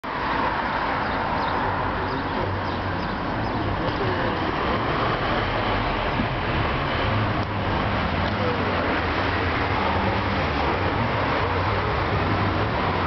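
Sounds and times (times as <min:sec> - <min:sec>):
steady background noise: 0:00.0 - 0:13.0
faint voices: 0:01.7 - 0:07.2, 0:07.8 - 0:13.0.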